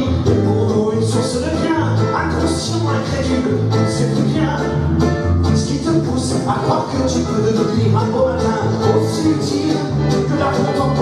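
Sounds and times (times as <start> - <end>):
acoustic guitar: 0.0 - 11.0
bass line: 0.0 - 11.0.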